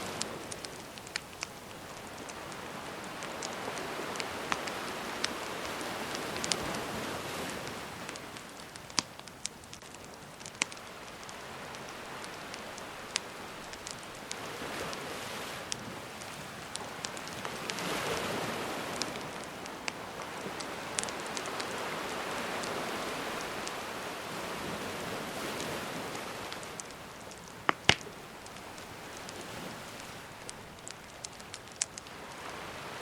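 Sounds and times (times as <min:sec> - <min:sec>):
wood fire crackling and popping: 0:00.0 - 0:32.9
gentle sea waves washing in: 0:00.0 - 0:33.0.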